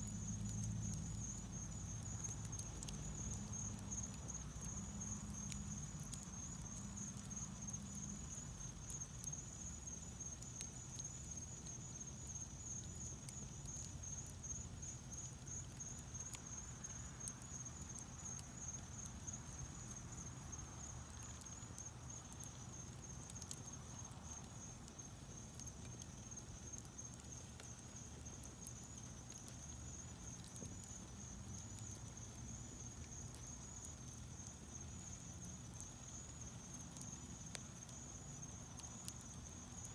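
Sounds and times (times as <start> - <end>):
faint high-pitched whine: 0.0 - 39.9
low rumble of flames: 0.0 - 39.9
wood fire crackling and popping: 0.0 - 39.9.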